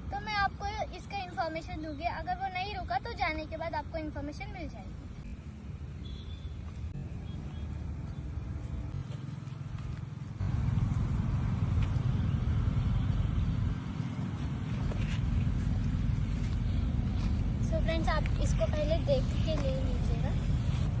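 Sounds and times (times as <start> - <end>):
low continuous rumbling: 0.0 - 21.0.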